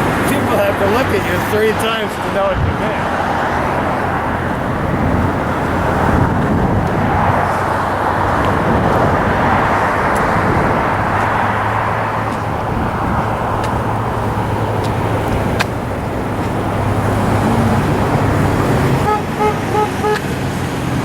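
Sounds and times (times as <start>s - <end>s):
busy freeway traffic: 0.0s - 21.0s.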